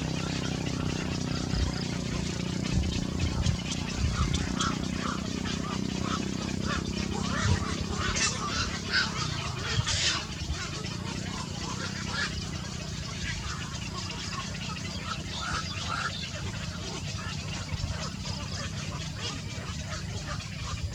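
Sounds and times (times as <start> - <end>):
low steady hum: 0.0 - 20.9
small birds chirping: 0.0 - 20.9.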